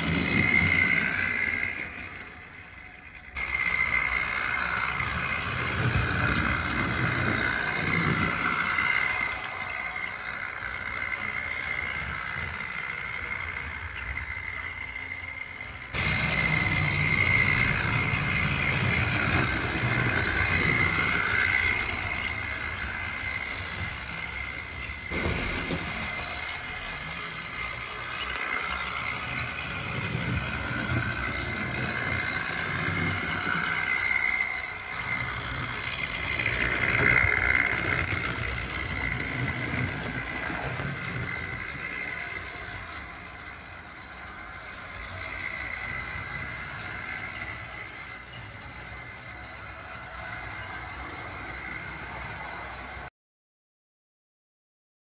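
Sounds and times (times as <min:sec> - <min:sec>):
model train motor whine: 0:00.0 - 0:53.1
wheels rumbling on track: 0:00.0 - 0:53.1.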